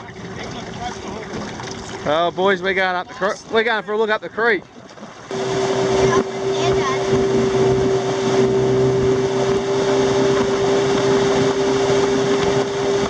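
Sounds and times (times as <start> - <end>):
outboard motor running: 0.0 - 13.0
wind and water rushing: 0.0 - 13.0.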